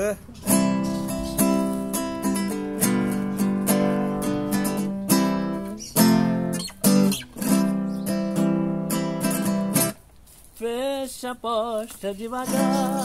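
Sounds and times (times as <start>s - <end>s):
acoustic guitar strumming chords: 0.0s - 10.0s, 12.3s - 13.0s.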